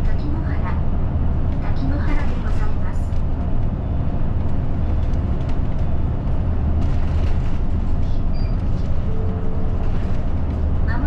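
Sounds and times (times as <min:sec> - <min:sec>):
bus cabin noise: 0:00.0 - 0:11.0
bus engine rumble: 0:00.0 - 0:11.0.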